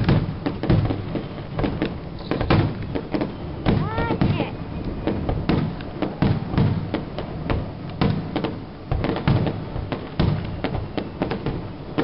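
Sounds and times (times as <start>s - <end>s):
fireworks booms and bangs: 0.0s - 12.0s.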